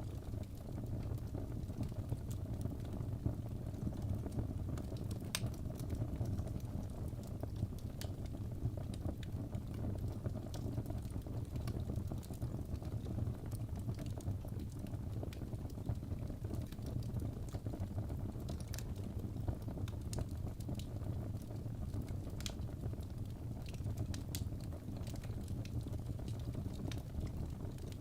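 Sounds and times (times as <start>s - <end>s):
logs burning with crackles: 0.0s - 28.0s.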